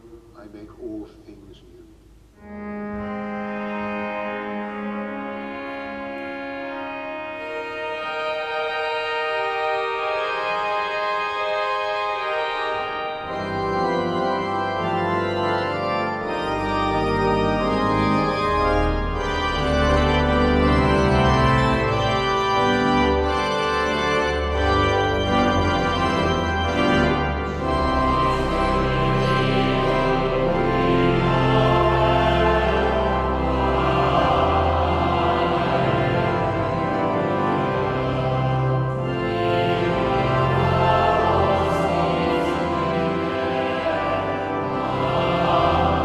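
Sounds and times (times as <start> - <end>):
church organ chords: 0.0 - 46.0
deep organ pedal bass notes: 0.0 - 46.0.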